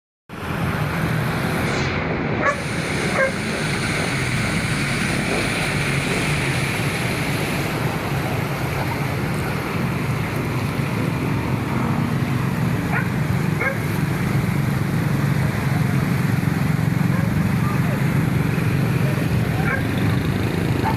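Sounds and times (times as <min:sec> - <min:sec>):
floodwater rushing: 0:00.3 - 0:20.9.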